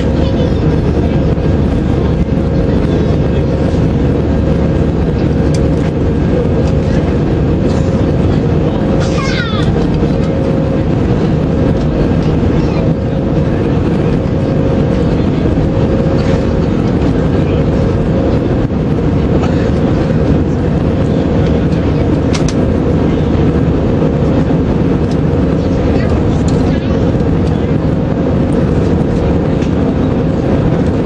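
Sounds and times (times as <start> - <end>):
airflow over fuselage: 0.0 - 31.0
constant mid-pitched hum: 0.0 - 31.0
jet engine rumble: 0.0 - 31.0.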